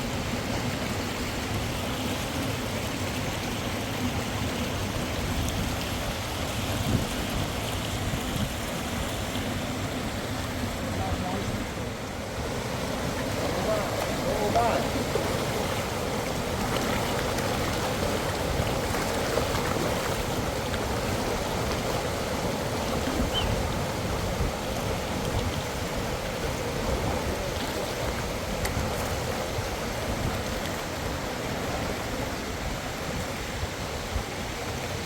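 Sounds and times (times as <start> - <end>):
cascading water rushing: 0.0 - 35.0.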